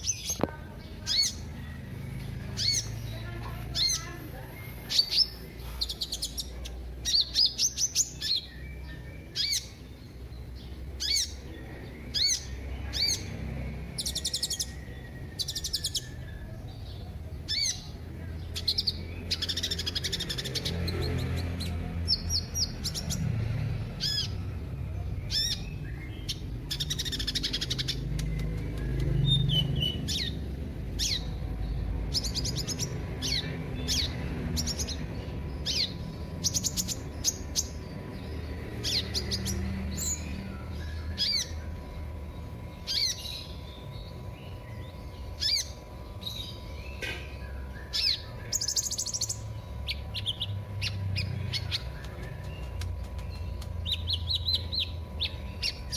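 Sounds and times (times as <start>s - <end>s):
bird chirping high and sharp: 0.0s - 13.3s, 13.9s - 23.3s, 25.2s - 42.0s, 42.7s - 55.9s.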